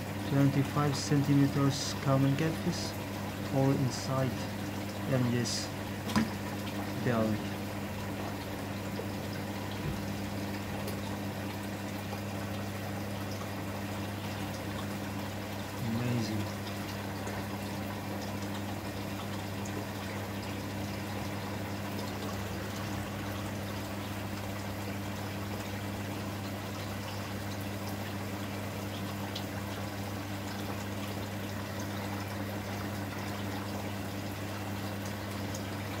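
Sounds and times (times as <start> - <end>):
aquarium pump hum: 0.0 - 36.0
water bubbling and trickling: 0.0 - 36.0.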